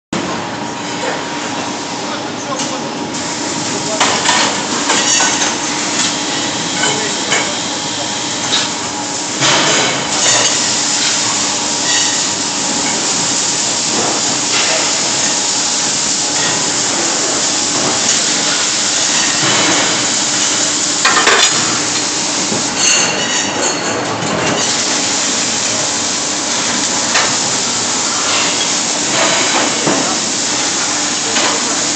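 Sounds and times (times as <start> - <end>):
welding arc crackling and hissing: 3.1 - 31.9.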